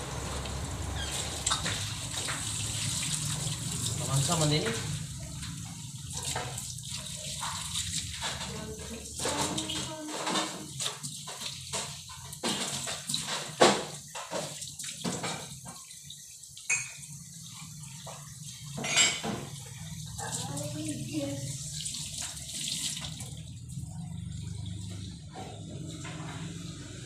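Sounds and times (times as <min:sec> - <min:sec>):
water splashing and pouring: 0:00.0 - 0:27.0.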